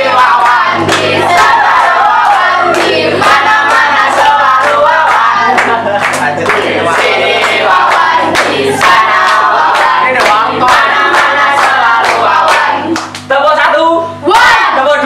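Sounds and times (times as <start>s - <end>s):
group chanting: 0.0s - 13.0s, 14.2s - 14.9s
rhythmic clapping: 0.0s - 13.4s.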